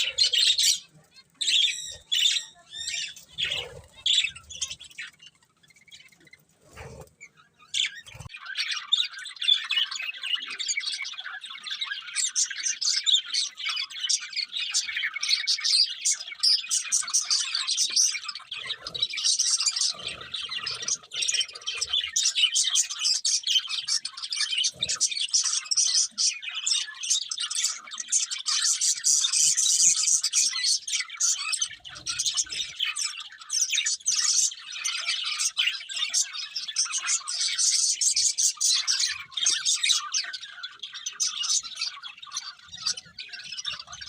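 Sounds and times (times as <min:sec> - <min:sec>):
budgerigars chattering: 0:00.0 - 0:44.0.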